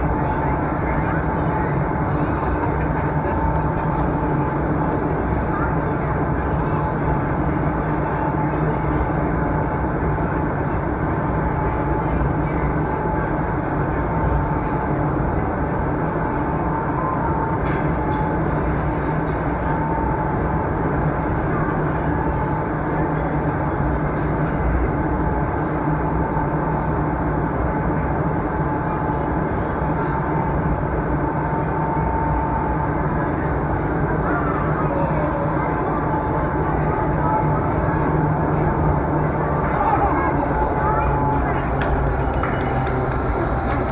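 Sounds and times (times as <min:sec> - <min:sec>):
steady fan hum: 0:00.0 - 0:43.9.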